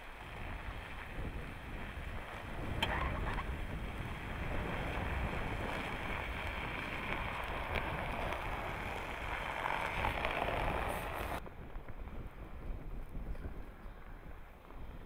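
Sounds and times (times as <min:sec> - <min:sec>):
engine rumble: 0:00.0 - 0:15.0
tyres rolling through snow: 0:00.0 - 0:15.0
wind on microphone: 0:00.0 - 0:15.0.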